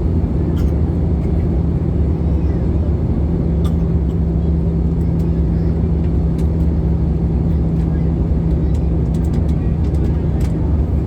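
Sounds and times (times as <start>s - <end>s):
airliner cabin engine rumble: 0.0s - 11.0s
constant low hum: 0.0s - 11.0s.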